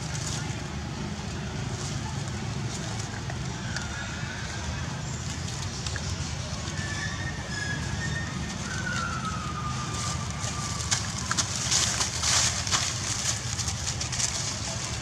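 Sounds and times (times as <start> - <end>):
scuffling in dry leaves: 0.0 - 15.0.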